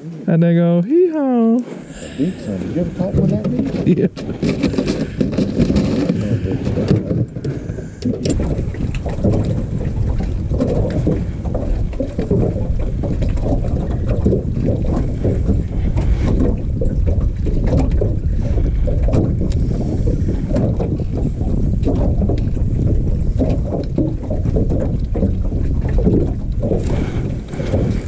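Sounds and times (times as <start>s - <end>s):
wind buffeting microphone: 1.8s - 28.0s.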